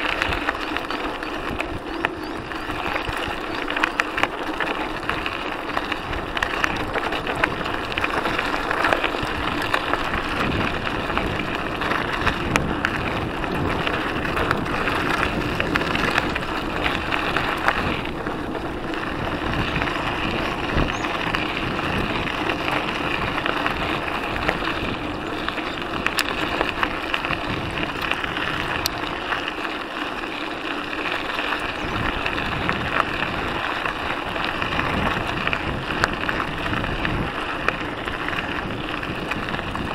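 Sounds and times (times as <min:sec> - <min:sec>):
bike tyres crunching on gravel: 0:00.0 - 0:39.9.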